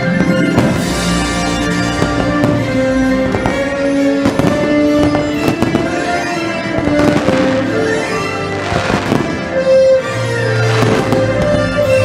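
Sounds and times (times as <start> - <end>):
fireworks bursting and crackling: 0.0 - 12.0
music with sustained notes: 0.0 - 12.0.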